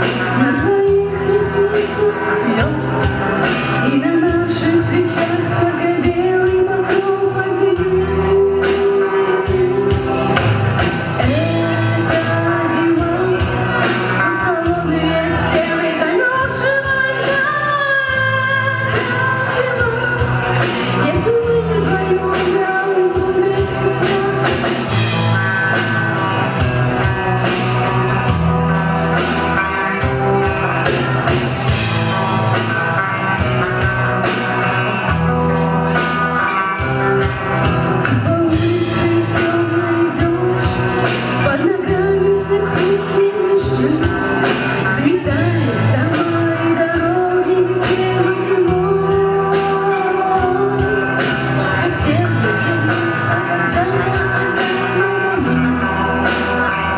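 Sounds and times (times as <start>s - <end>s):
live rock band playing: 0.0s - 56.9s
person singing: 0.0s - 56.9s.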